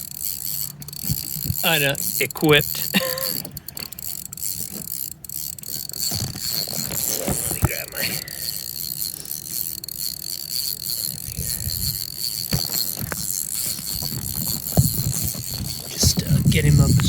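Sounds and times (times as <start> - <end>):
fishing reel ratchet clicking: 0.0 - 17.0.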